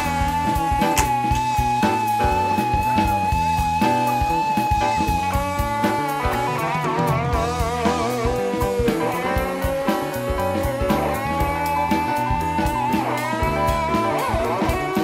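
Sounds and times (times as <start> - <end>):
electric guitar with vibrato: 0.0 - 15.0
rock music: 0.0 - 15.0
steady drum beat: 0.0 - 15.0.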